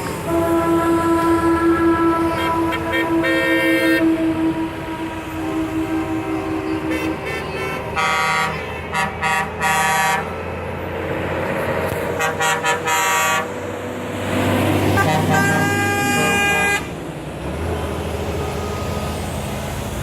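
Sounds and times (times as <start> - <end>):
truck horns honking: 0.0 - 10.8, 11.6 - 17.0
engines rumbling: 0.0 - 20.0.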